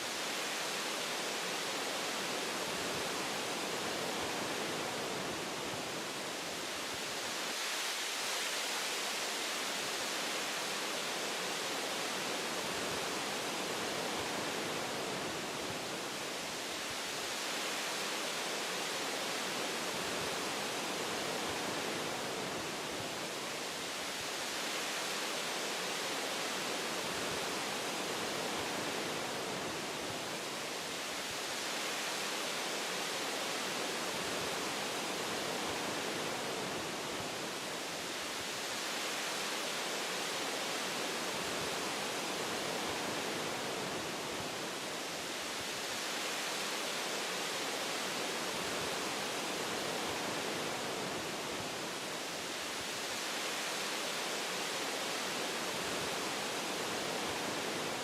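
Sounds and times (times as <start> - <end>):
wind through tree branches: 0.0 - 58.0.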